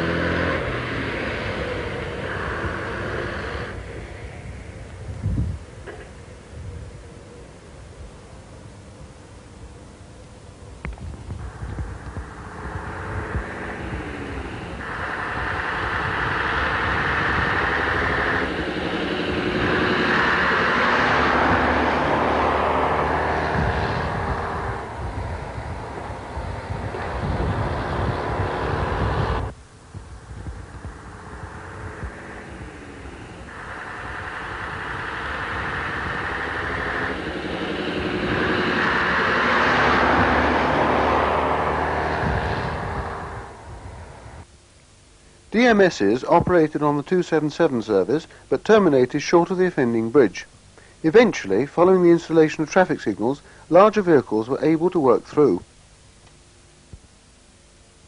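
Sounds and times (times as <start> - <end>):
bus diesel engine running: 0.0 - 6.6, 8.6 - 56.7.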